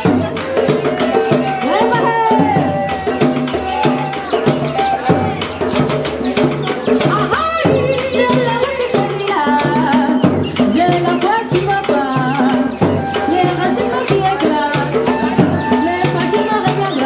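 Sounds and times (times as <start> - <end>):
women singing: 0.0 - 5.6, 6.9 - 17.0
drum: 0.0 - 17.0
shaker rhythm: 0.0 - 17.0.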